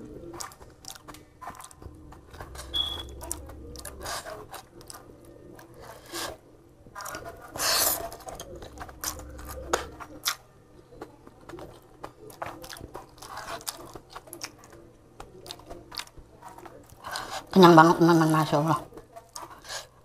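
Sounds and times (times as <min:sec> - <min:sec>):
wet chewing and mouth clicks: 0:00.0 - 0:06.4, 0:07.0 - 0:17.5.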